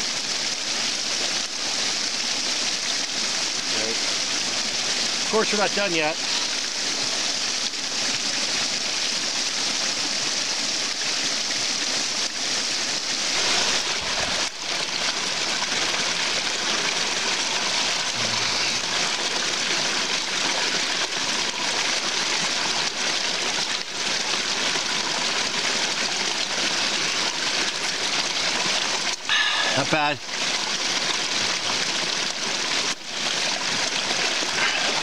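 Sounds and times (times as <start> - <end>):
stream splashing over cascade: 0.0 - 35.0.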